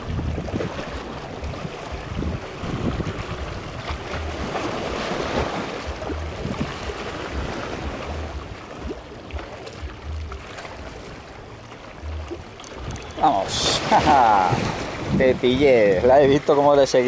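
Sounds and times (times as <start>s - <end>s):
wind buffeting microphone: 0.0s - 11.0s, 12.0s - 16.8s
small waves lapping over rocks: 0.0s - 17.0s.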